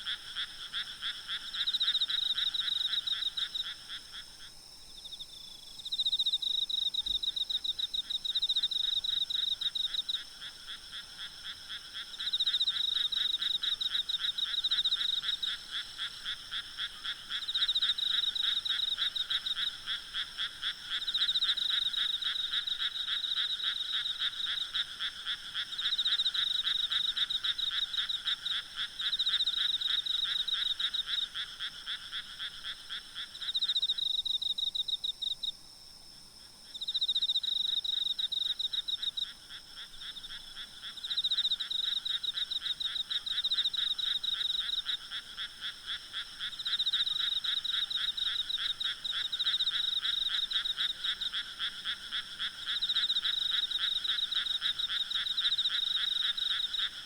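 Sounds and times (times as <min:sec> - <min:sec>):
frogs croaking: 0:00.0 - 0:35.6, 0:36.4 - 0:57.0
insects trilling: 0:00.0 - 0:35.6, 0:36.4 - 0:57.0.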